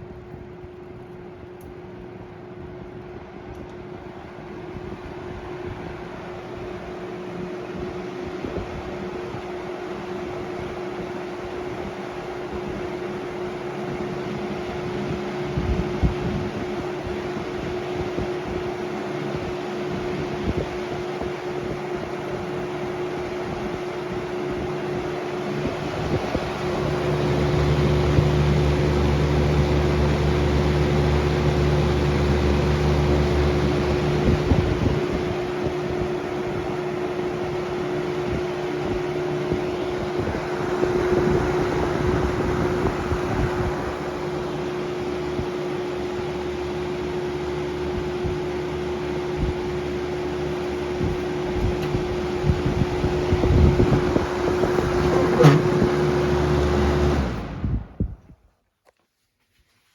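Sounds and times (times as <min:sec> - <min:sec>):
box fan motor hum: 0:00.0 - 0:58.3.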